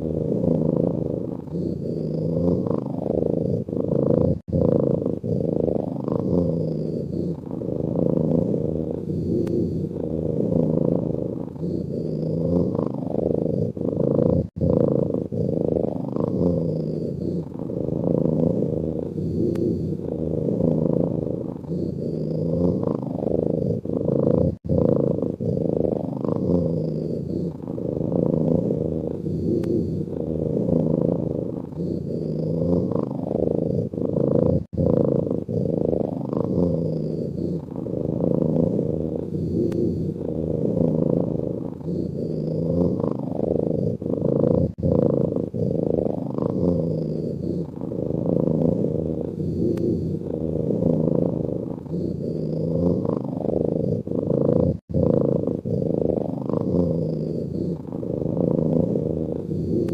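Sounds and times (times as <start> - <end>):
cat snoring: 0.0 - 59.9.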